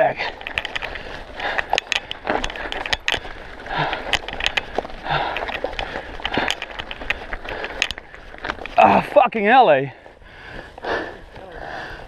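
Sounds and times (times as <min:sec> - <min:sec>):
bike frame rattling and knocking: 0:00.0 - 0:10.0
tyres crunching on stones: 0:00.0 - 0:11.6.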